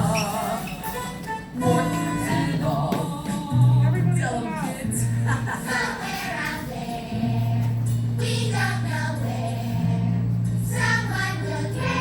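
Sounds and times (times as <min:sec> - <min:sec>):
group of voices singing: 0:00.0 - 0:01.0, 0:01.6 - 0:03.9, 0:05.3 - 0:12.0.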